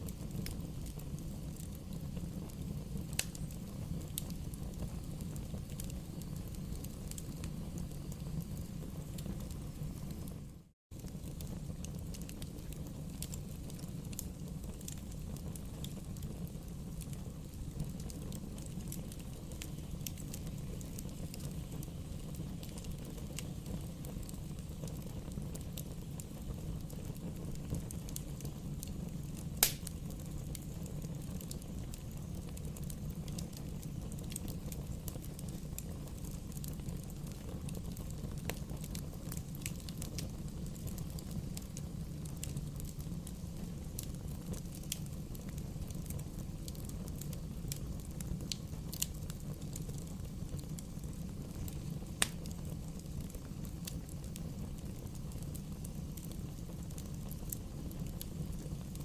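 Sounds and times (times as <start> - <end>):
burning wood crackling and popping: 0.0 - 59.0
rumble of flames: 0.0 - 59.0.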